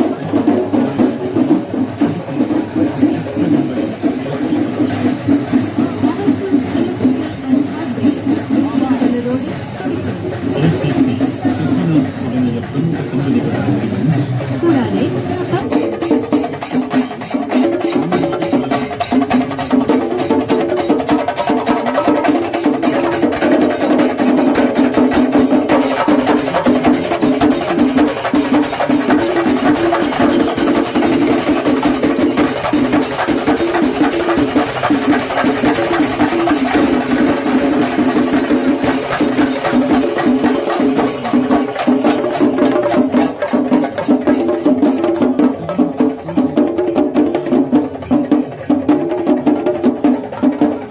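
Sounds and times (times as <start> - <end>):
rapid drum strokes: 0.0 - 50.9.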